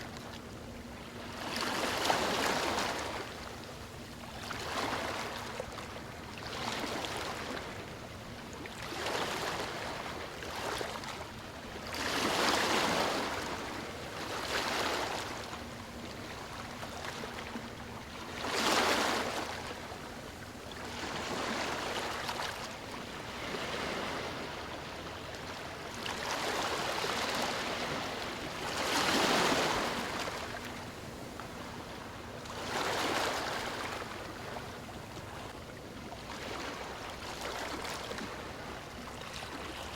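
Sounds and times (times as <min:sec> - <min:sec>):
ocean waves lapping on shore: 0:00.0 - 0:39.9.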